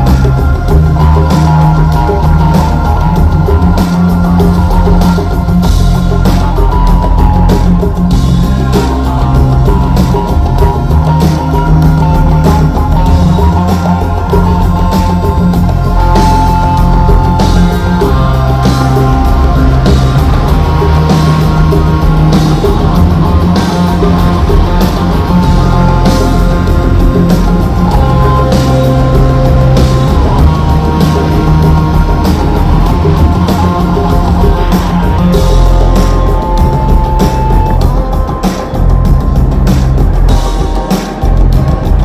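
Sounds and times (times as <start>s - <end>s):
drum kit: 0.0s - 42.0s
electric guitar: 0.0s - 42.0s
loud rock music: 0.0s - 42.0s.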